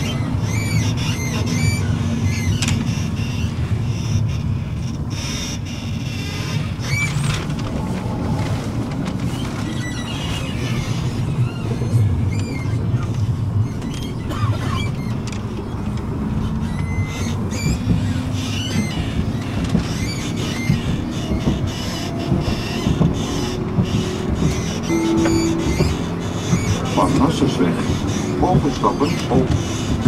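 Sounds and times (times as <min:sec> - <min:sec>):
high wheel squeals: 0:00.0 - 0:30.0
tram rumbling on rails: 0:00.0 - 0:30.0.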